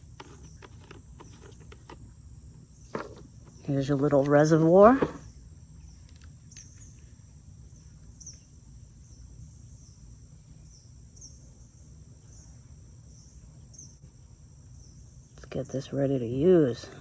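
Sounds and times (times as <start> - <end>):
insect chirps: 0.0 - 17.0.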